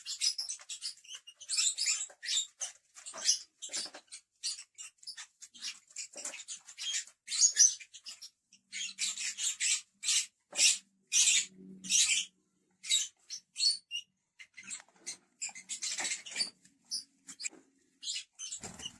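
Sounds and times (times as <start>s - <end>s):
lovebirds chirping and squawking: 0.0s - 18.9s.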